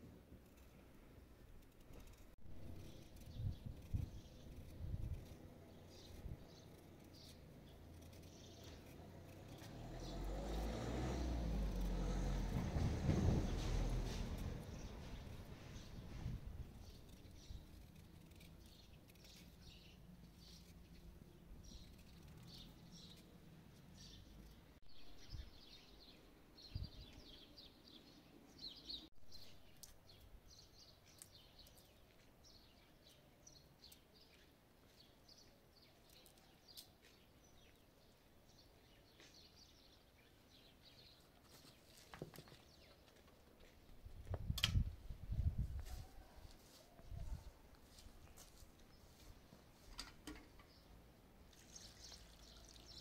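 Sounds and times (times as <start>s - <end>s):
small birds chirping: 1.4s - 53.0s.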